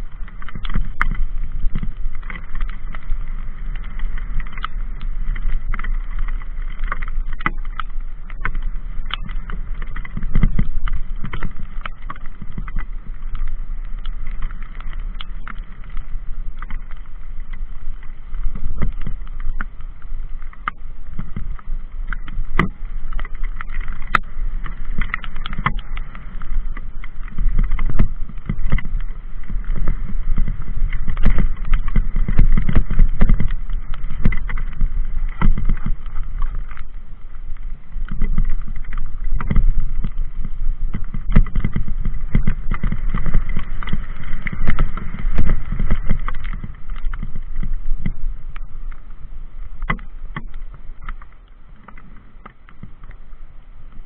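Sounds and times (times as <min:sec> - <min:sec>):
bike knocking and rattling: 0:00.0 - 0:15.9, 0:18.6 - 0:37.1, 0:37.7 - 0:53.2
wind rumbling on microphone: 0:00.0 - 0:54.0.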